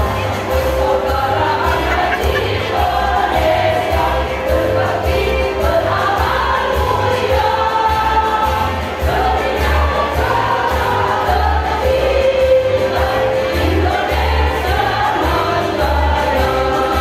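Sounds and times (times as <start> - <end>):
women's choir singing: 0.0 - 17.0.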